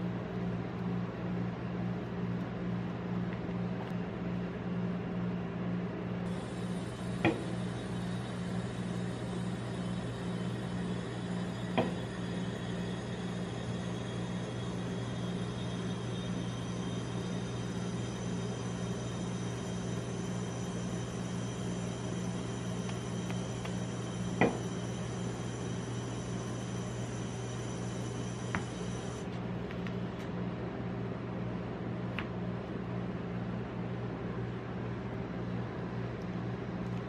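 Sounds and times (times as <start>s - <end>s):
compressor humming: 0.0s - 37.0s.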